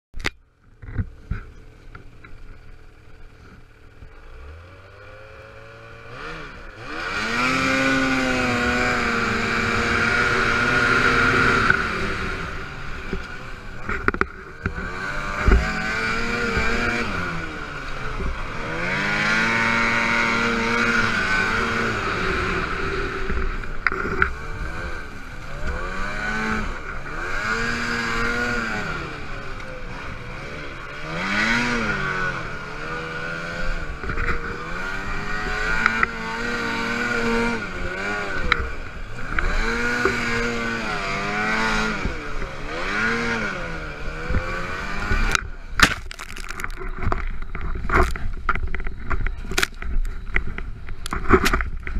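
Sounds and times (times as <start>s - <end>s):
snowmobile engine revving: 4.0s - 48.5s.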